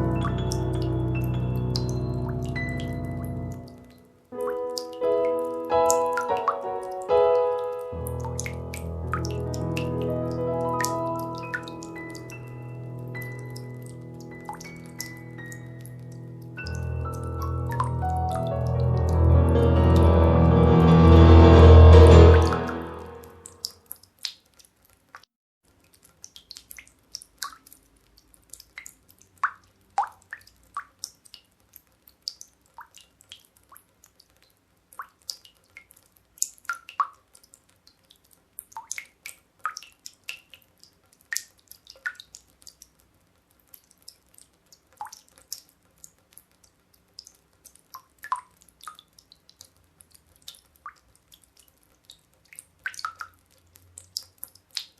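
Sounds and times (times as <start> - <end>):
water drops dripping: 0.0 - 19.1, 23.4 - 54.9.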